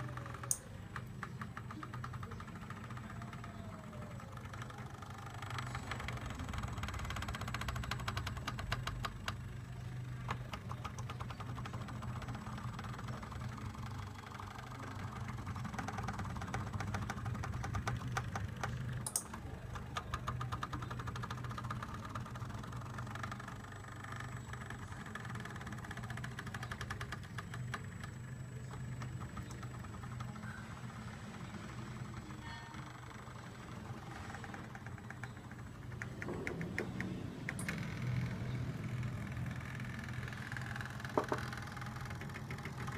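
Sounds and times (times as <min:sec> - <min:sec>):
fine rapid ticking: 0:00.0 - 0:42.9.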